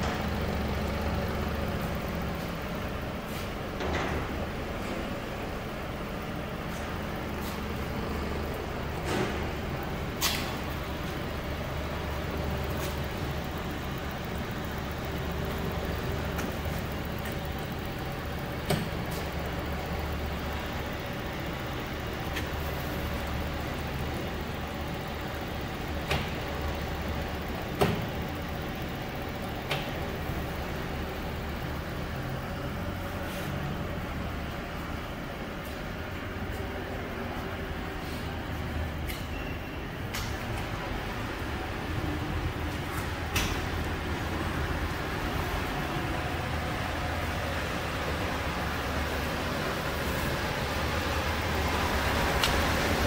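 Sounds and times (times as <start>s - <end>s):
oven blower humming: 0.0s - 53.0s.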